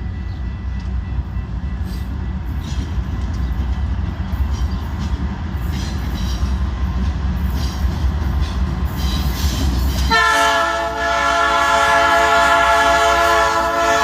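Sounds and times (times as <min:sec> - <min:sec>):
train rumbling by: 0:00.0 - 0:14.0.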